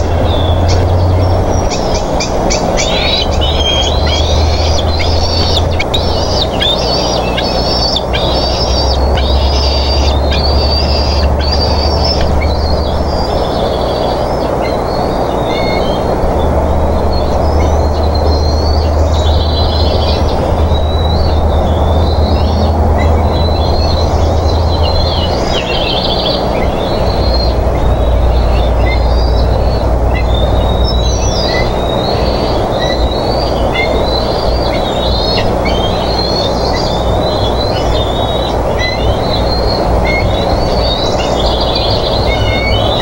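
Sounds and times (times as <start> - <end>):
eaglets squealing begging calls: 0.0 - 43.0
steady rushing noise: 0.0 - 43.0.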